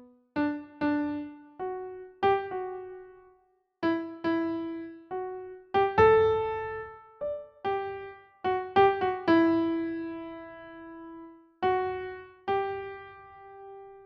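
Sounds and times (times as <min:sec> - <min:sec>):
slow solo piano melody: 0:00.0 - 0:14.0.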